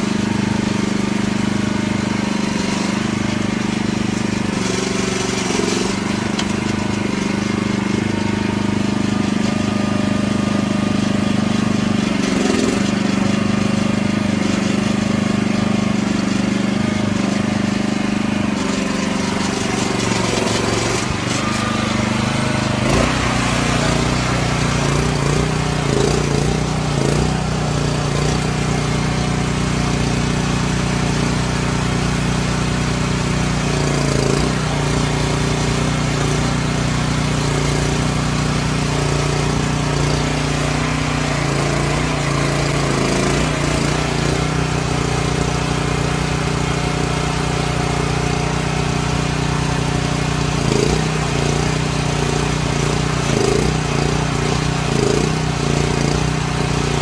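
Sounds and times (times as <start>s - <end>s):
excavator engine running under load: 0.0s - 57.0s.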